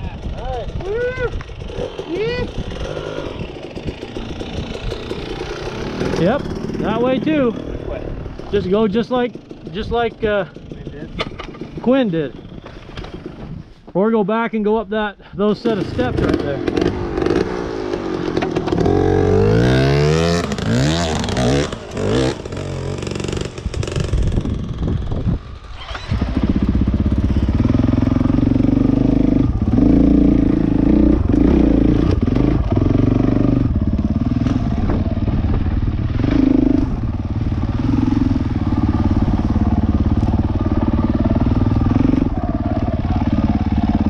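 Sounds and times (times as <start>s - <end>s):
dirt bike engine revving: 0.1s - 13.4s, 15.6s - 44.0s.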